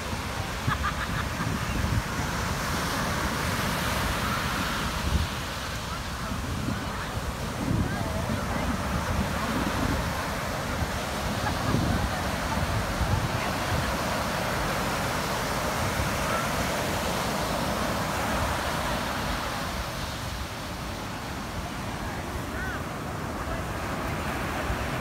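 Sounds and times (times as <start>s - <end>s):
wind rumble on microphone: 0.0s - 20.9s
ocean surf breaking: 0.0s - 25.0s.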